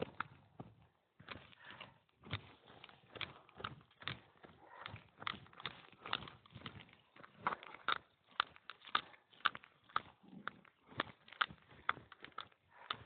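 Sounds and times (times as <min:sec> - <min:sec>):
footsteps on a trail: 0:00.0 - 0:13.0.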